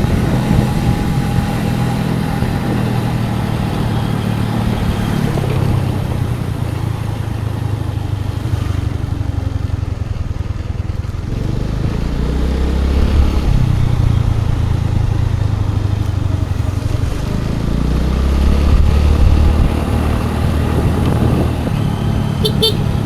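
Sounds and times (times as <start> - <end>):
motor scooter engine revving: 0.0 - 23.0.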